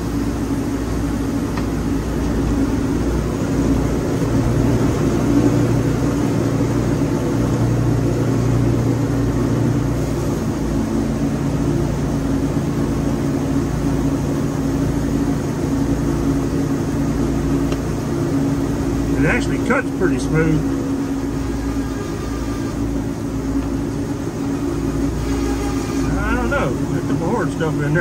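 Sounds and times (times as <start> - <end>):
band sawmill cutting log: 0.0 - 28.0.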